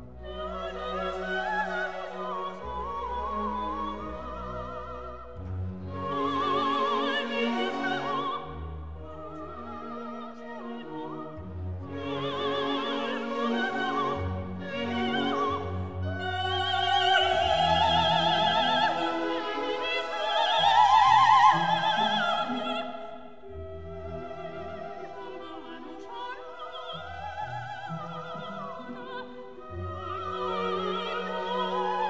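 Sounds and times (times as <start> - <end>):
orchestra playing: 0.0 - 32.0.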